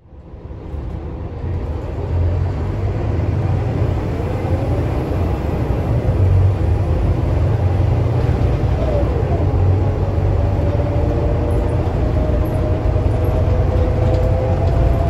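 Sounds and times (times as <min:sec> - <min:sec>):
bus engine rumble from inside: 0:00.0 - 0:15.0.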